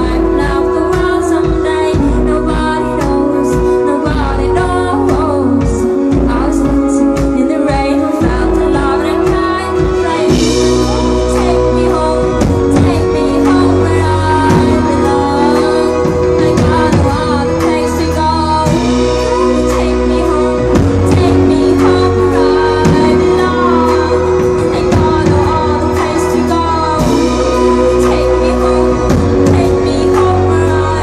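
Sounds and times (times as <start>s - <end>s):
deep bass line: 0.0s - 31.0s
drums beating: 0.0s - 31.0s
electric guitar: 0.0s - 31.0s
woman singing: 0.0s - 31.0s.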